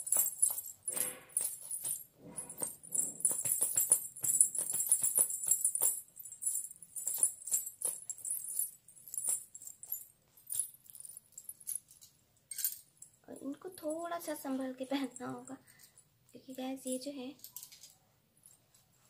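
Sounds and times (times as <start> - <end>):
ankle bells jingling: 0.0 - 17.8.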